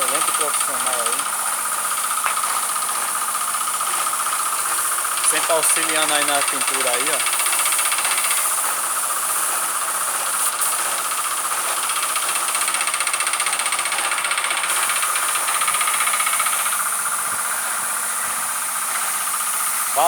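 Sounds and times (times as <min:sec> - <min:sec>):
air compressor pulsing: 0:00.0 - 0:20.0
paint sprayer air hiss: 0:00.0 - 0:20.0.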